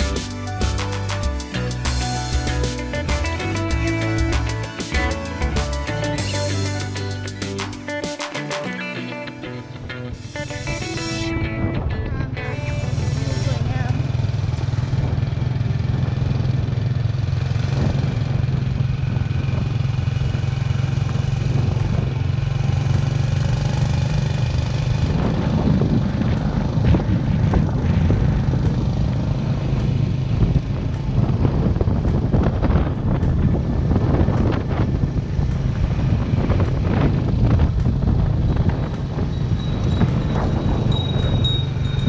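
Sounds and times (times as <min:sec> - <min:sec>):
motorbike engine humming: 0:00.0 - 0:42.0
road and wind noise: 0:00.0 - 0:42.0.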